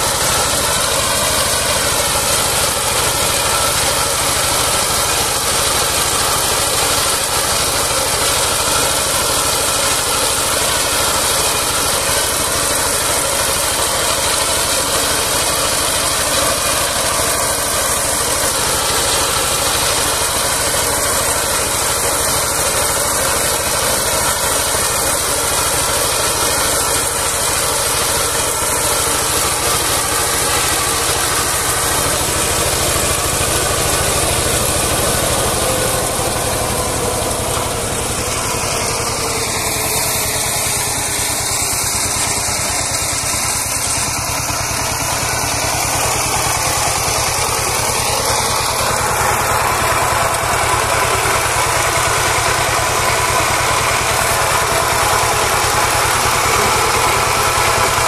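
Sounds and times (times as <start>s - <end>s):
rice reaper engine running: 0.0s - 58.0s.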